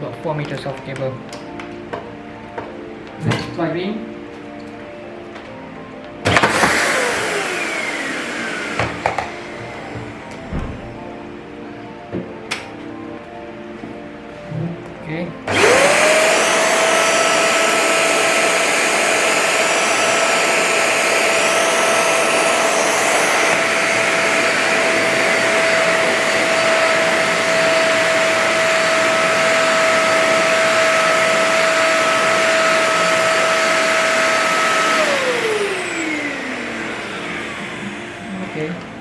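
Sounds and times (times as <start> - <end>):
vacuum cleaner motor whine: 0.0 - 39.0.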